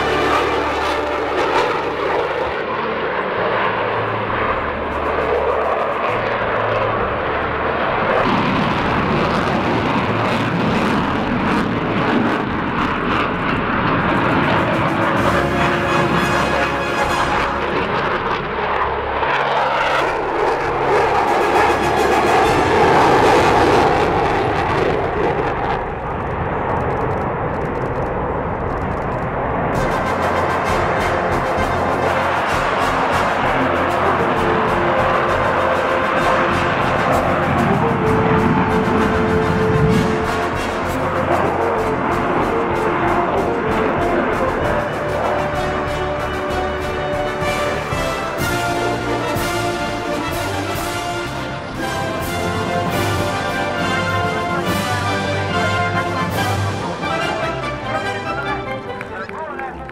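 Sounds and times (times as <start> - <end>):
jet roar: 0.0 - 59.9.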